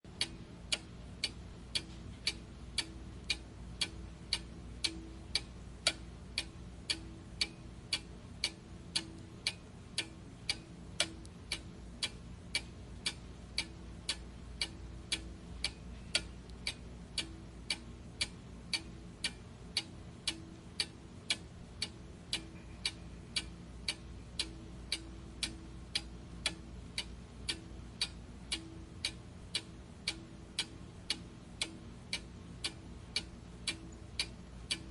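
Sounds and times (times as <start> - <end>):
steady ticking: 0.1 - 34.9.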